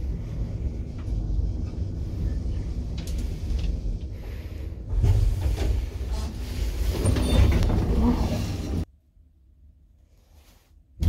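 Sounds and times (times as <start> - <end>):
elevator machinery rumble: 0.0 - 8.9.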